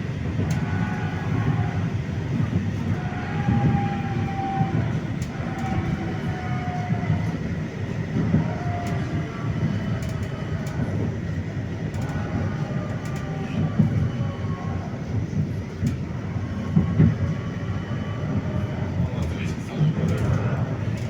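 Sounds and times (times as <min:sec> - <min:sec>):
rumble of tram wheels on rail: 0:00.0 - 0:21.0.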